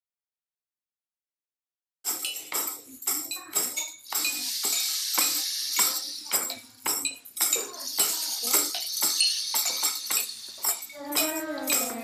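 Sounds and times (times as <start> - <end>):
metallic percussion strikes: 2.1 - 12.0
shaking jingle: 2.1 - 12.0.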